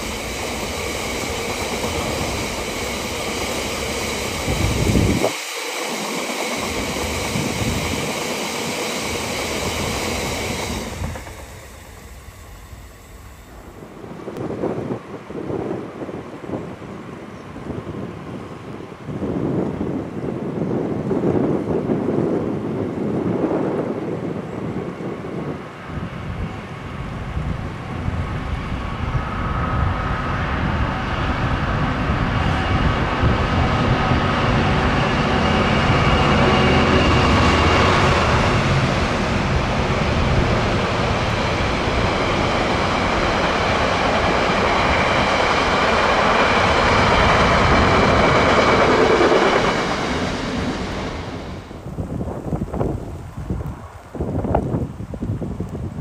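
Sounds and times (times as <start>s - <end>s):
diesel freight train passing: 0.0s - 56.0s.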